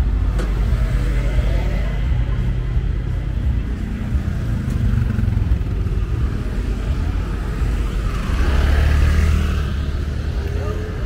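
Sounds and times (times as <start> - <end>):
busy street traffic: 0.0 - 11.0.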